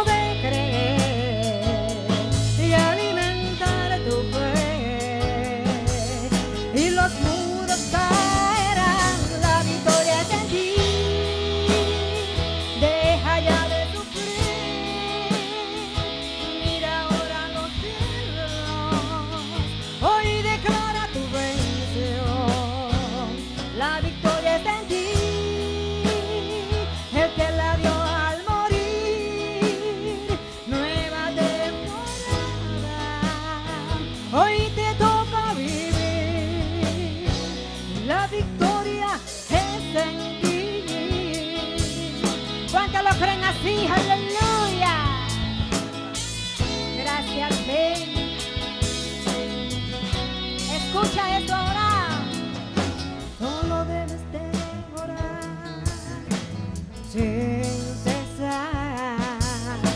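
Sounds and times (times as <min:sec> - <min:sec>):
gospel band playing: 0:00.0 - 0:59.9.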